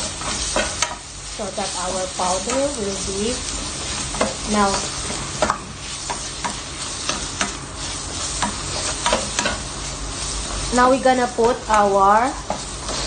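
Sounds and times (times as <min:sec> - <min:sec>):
spatula scraping and knocking pan: 0:00.0 - 0:01.0, 0:01.8 - 0:09.7, 0:10.4 - 0:13.0
food sizzling in a steel pan: 0:00.0 - 0:13.0.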